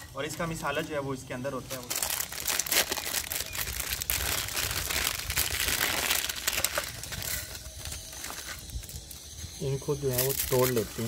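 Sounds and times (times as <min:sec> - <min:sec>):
plastic wrapper crinkling: 0:01.6 - 0:11.0.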